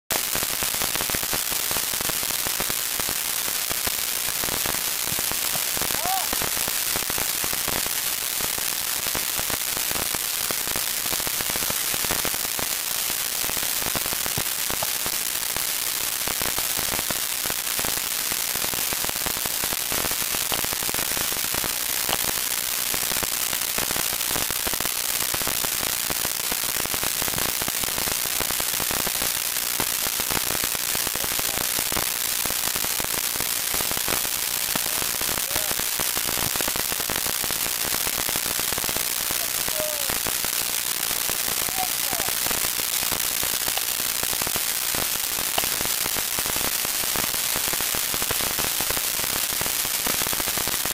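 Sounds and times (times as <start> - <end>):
steady hiss with crackling: 0.1 - 50.9.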